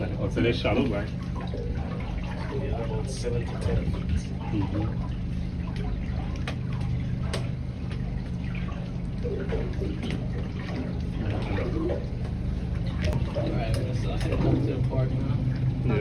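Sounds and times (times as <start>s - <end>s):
low steady hum: 0.0s - 16.0s
water splashing against boat hull: 0.0s - 16.0s.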